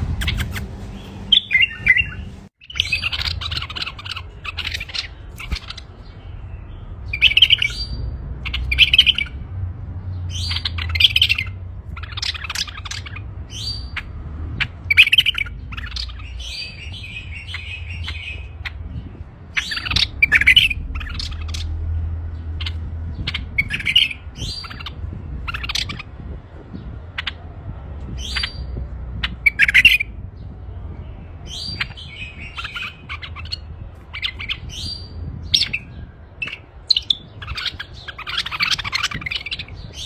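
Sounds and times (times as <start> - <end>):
bulbul singing: 0.0 - 40.0.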